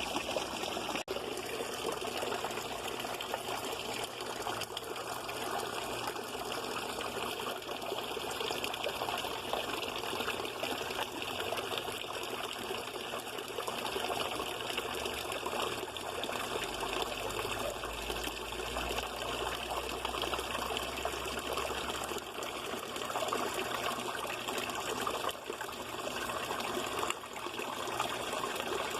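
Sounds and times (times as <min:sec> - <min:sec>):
water trickling into pond: 0:00.0 - 0:28.9.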